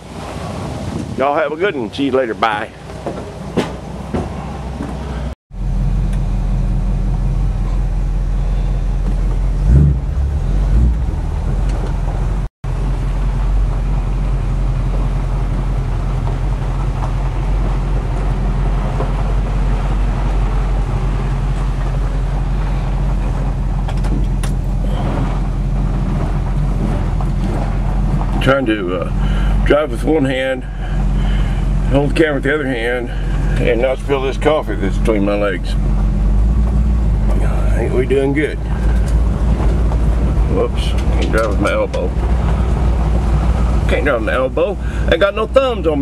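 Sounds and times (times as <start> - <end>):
car engine running: 1.0 - 46.0.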